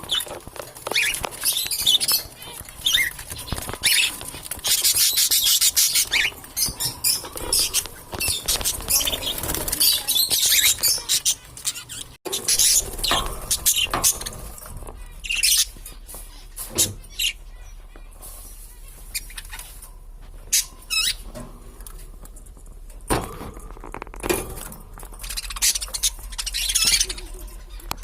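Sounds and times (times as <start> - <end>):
budgerigars chirping and warbling: 0.0 - 21.4, 25.2 - 28.0.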